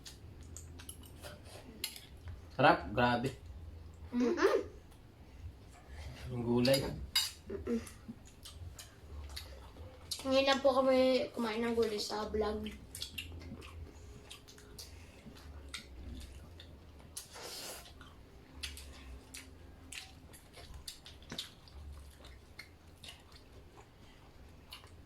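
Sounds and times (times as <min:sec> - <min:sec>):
people chewing food: 0:00.0 - 0:25.0.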